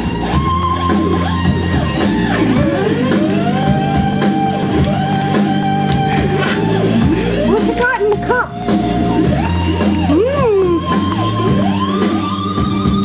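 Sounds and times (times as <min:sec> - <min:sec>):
rock music with lead guitar: 0:00.0 - 0:13.0.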